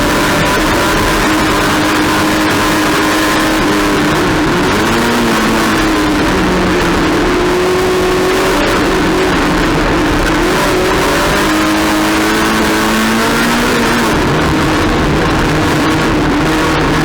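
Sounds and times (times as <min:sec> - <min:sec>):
race car engine accelerating: 0:00.0 - 0:17.0
road noise: 0:00.0 - 0:17.0.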